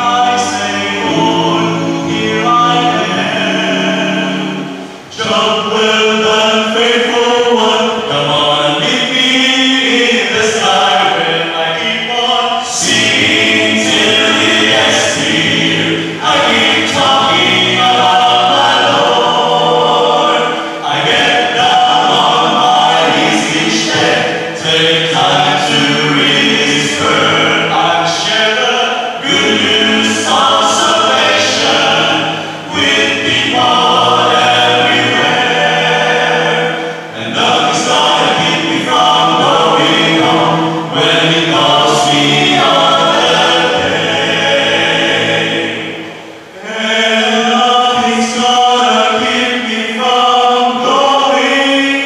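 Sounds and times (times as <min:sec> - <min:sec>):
men singing gospel in harmony: 0:00.0 - 0:52.0.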